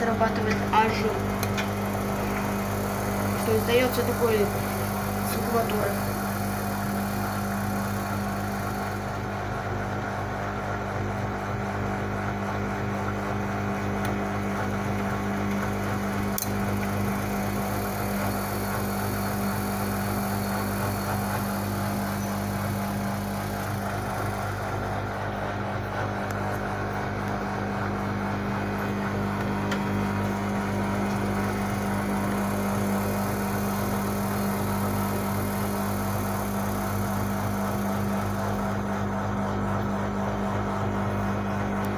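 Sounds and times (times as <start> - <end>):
washing machine humming: 0.0 - 41.9.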